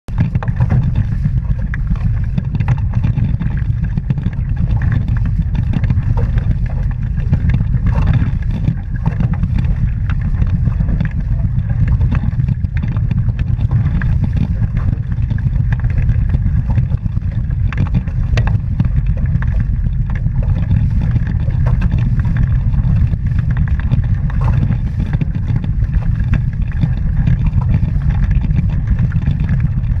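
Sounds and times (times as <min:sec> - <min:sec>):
wind buffeting microphone: 0:00.1 - 0:30.0.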